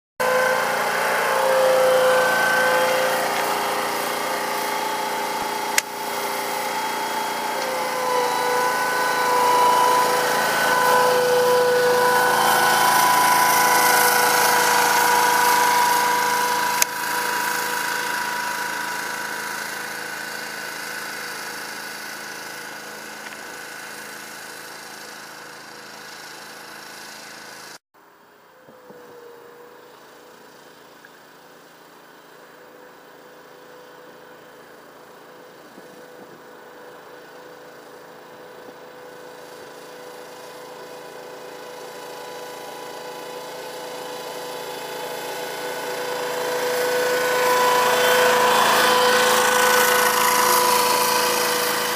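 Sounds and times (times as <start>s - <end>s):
tractor engine running: 0.2s - 27.7s, 35.4s - 51.9s.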